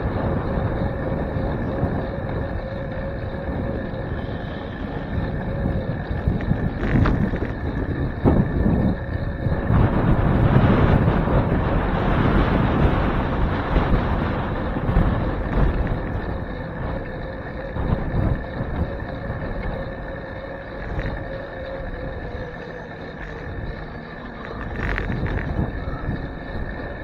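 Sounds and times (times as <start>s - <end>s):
low bike ride rumble: 0.0s - 27.0s
wind buffeting microphone: 0.0s - 27.0s.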